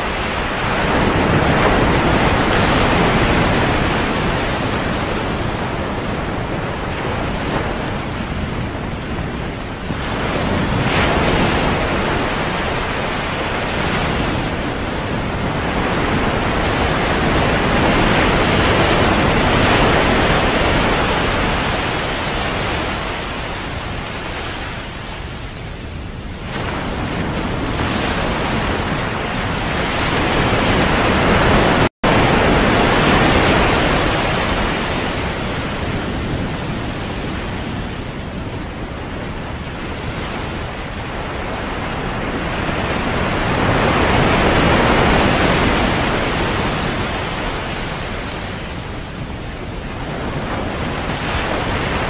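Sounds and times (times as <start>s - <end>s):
sea waves washing onto shore: 0.0s - 52.0s.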